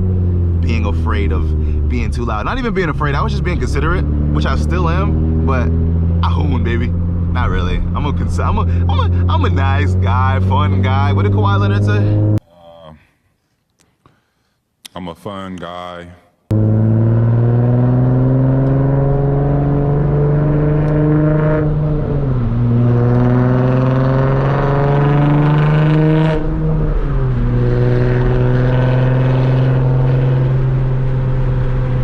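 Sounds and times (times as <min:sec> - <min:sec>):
car engine accelerating: 0:00.0 - 0:12.4, 0:16.5 - 0:32.0.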